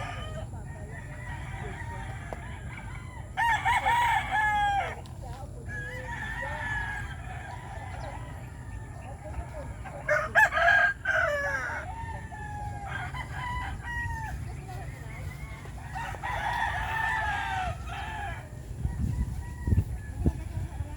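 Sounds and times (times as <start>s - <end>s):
hens clucking: 0.0s - 20.9s
roosters crowing: 0.0s - 20.9s.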